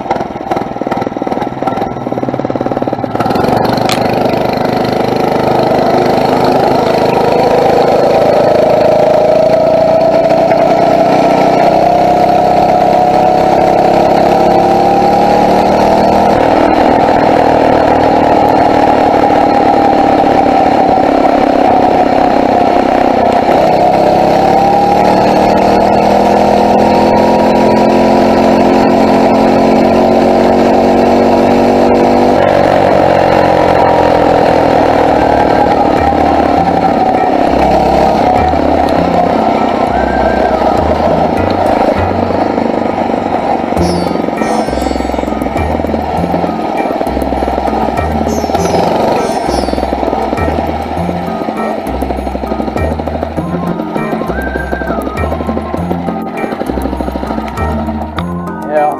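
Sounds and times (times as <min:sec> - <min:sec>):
bicycle engine revving: 0:00.0 - 0:58.9.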